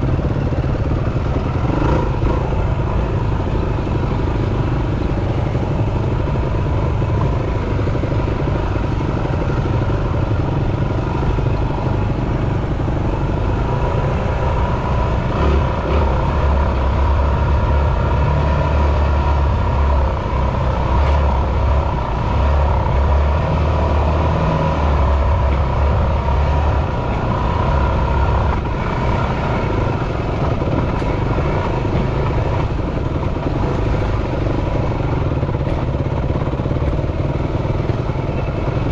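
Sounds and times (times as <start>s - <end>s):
dirt bike engine rumbling: 0.0s - 38.9s.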